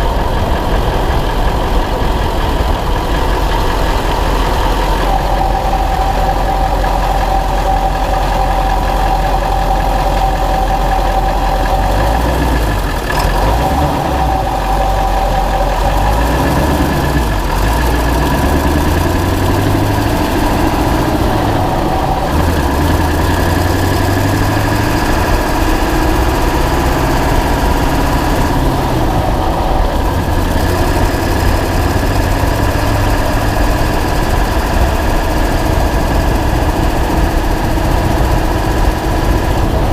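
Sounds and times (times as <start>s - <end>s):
diesel truck engine running: 0.0s - 39.9s
exhaust leak ticking: 0.0s - 39.9s
loud exhaust: 0.0s - 39.9s
road noise: 0.0s - 39.9s.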